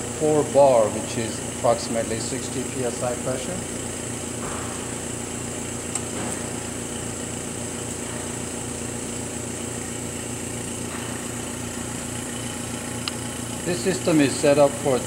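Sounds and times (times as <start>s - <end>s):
lab equipment humming: 0.0s - 15.0s.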